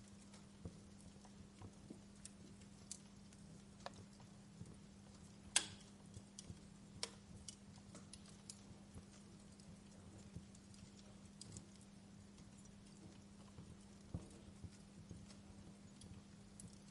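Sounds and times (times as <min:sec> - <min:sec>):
campfire crackling and popping: 0:00.0 - 0:16.9
steady low hum: 0:00.0 - 0:16.9.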